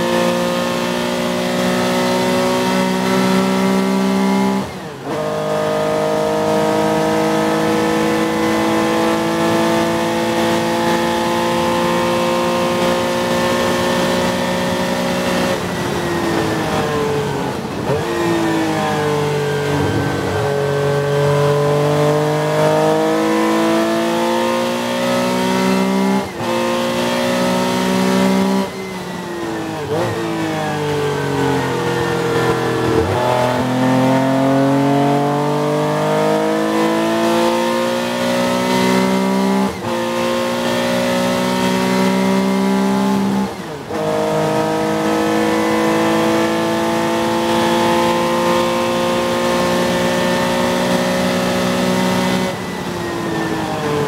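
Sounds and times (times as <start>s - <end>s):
race car engine accelerating: 0.0s - 54.0s.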